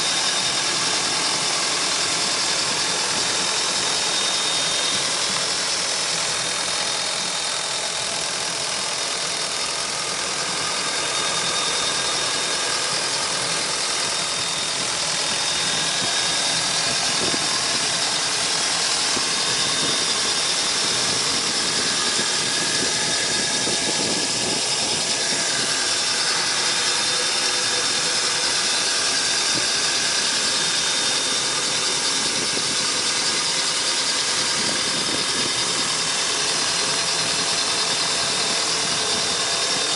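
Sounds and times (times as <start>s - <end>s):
boat engine running up close: 0.0s - 39.9s.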